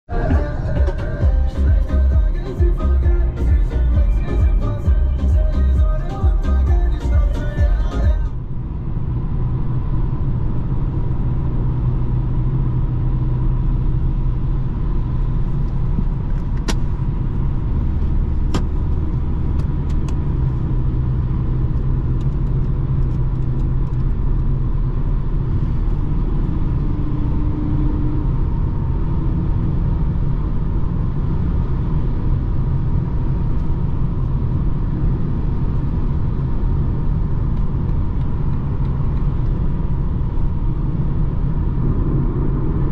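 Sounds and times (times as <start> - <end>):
diesel car engine: 0.0 - 42.9
road noise: 0.0 - 42.9.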